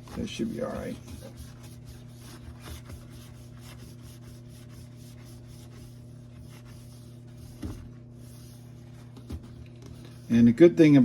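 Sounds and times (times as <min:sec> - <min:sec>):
cloth rubbing rubber: 0:00.0 - 0:10.5.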